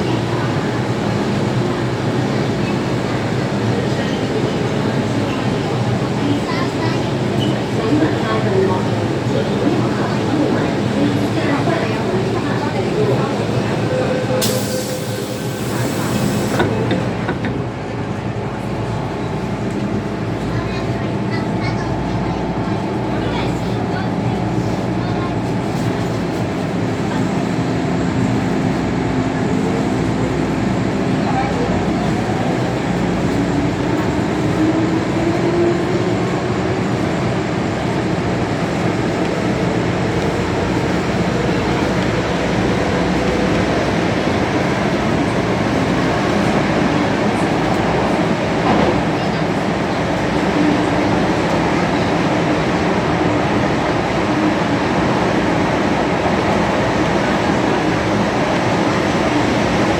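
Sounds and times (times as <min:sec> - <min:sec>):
train rumbling with a hum: 0:00.0 - 0:59.9.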